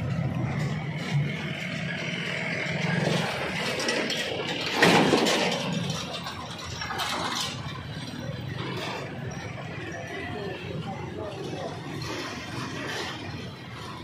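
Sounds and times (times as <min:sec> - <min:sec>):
motorcycle engines passing: 0:00.0 - 0:14.0
small truck driving by: 0:00.0 - 0:14.0
steady engine hum: 0:00.0 - 0:14.0.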